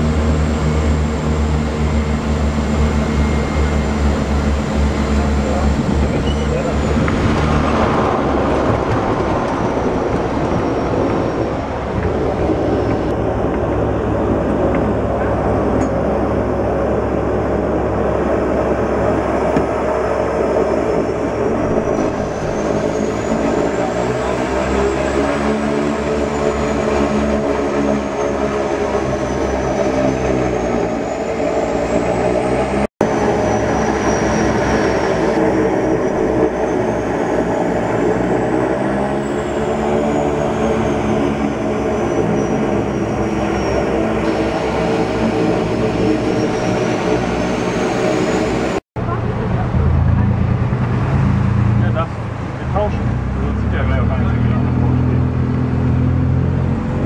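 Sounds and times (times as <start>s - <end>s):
turboprop engines and propellers: 0.0s - 57.0s.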